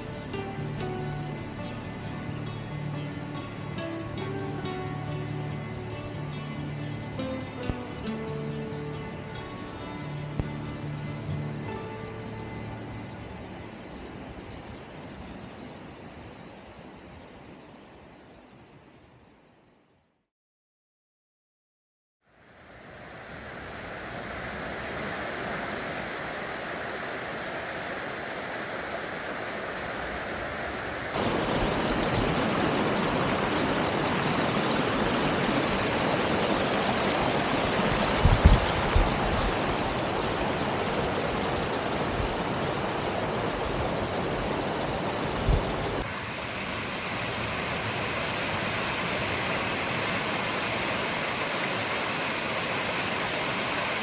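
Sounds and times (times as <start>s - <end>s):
rushing stream water: 0.0s - 17.2s, 22.3s - 54.0s.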